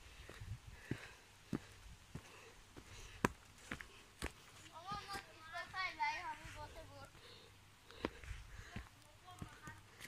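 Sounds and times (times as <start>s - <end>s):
footsteps on forest path: 0.0s - 10.0s.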